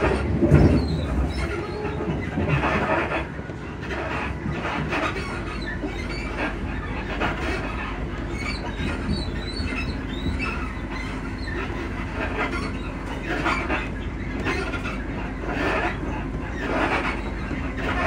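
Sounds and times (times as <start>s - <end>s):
suspension squeaks and creaks: 0.0s - 18.0s
train carriage rumble: 0.0s - 18.0s.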